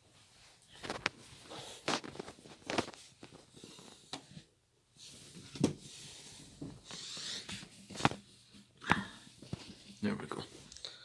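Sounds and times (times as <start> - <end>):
faint rustling: 0.0 - 10.8.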